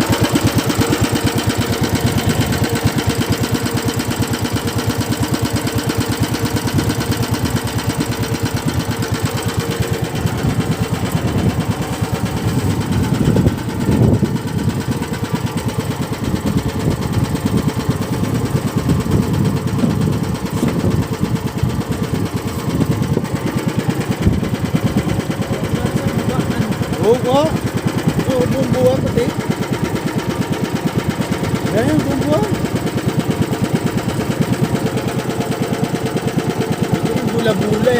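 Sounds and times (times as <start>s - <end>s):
boat engine running: 0.0s - 37.9s.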